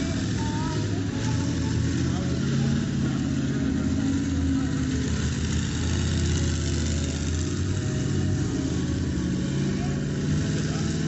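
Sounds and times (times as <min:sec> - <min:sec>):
monster truck engine idling: 0:00.0 - 0:11.0.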